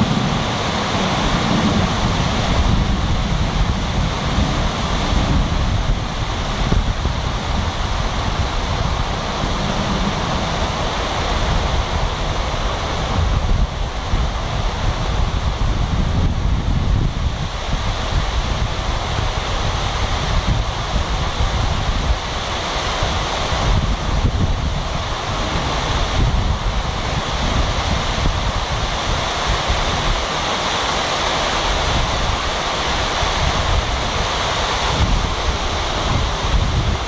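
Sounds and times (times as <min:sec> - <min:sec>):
heavy rain hissing: 0:00.0 - 0:37.0
wind buffeting microphone: 0:00.0 - 0:37.0.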